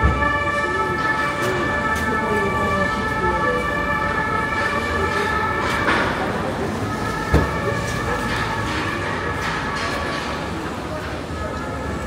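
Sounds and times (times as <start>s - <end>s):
faint voices: 0.0s - 12.0s
siren sounding steadily: 0.0s - 12.0s
traffic and street noise: 0.0s - 12.0s.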